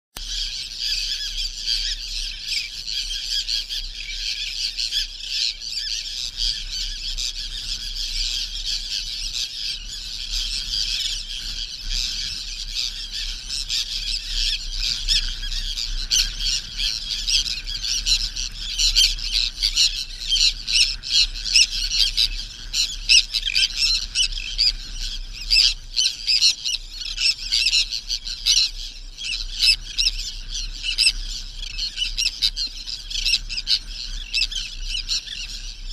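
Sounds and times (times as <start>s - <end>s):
many birds chirping and squawking: 0.2s - 35.9s.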